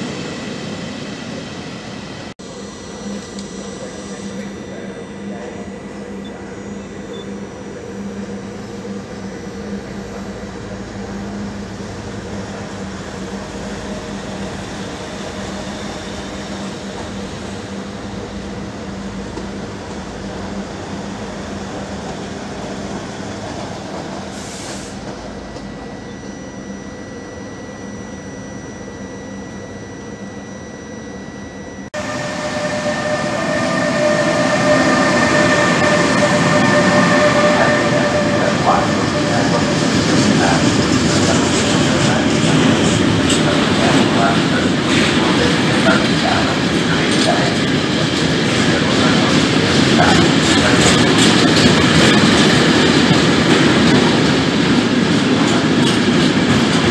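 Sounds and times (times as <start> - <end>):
freight train rolling by: 0.0 - 28.4, 32.0 - 56.9
passenger train humming: 0.0 - 56.9.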